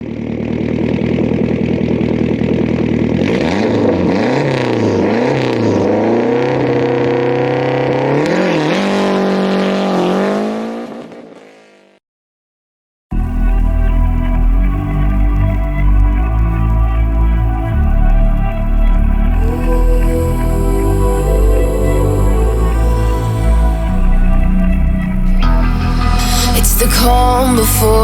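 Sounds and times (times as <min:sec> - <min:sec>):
car engine idling and revving: 0:00.0 - 0:11.8, 0:13.2 - 0:28.0.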